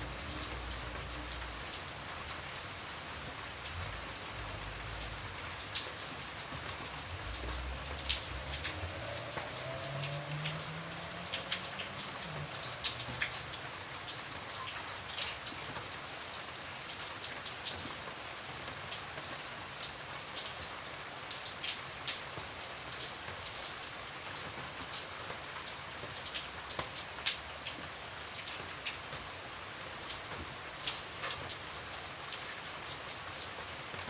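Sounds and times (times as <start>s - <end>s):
light rain hiss: 0.0s - 34.0s
raindrops ticking on hard surface: 0.0s - 34.0s.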